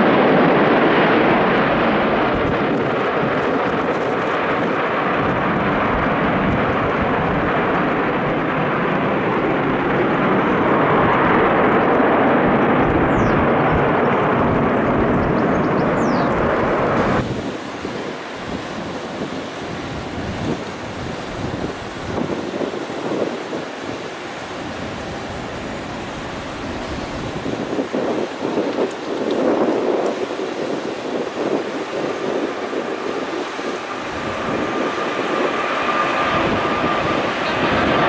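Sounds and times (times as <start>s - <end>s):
gusty wind on microphone: 0.0s - 38.0s
jet engine of taxiing airliner: 0.0s - 38.0s.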